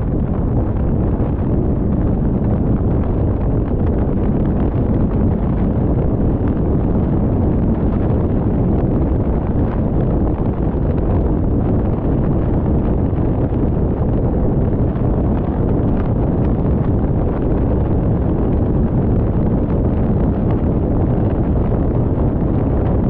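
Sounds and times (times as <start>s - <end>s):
car tyre and road noise: 0.0s - 23.0s.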